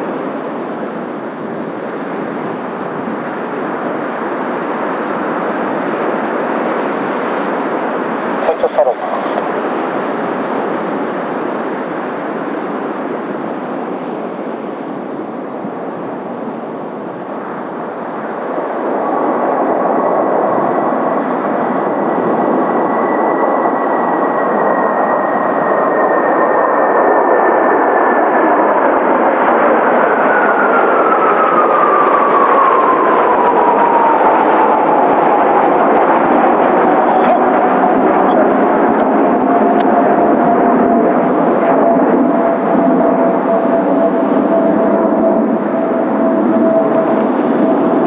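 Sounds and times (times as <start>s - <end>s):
jet engines roaring past: 0.0s - 48.0s.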